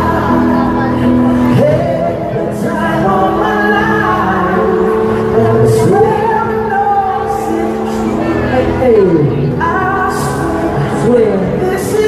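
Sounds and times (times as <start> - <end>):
music with singing voice: 0.0 - 12.0.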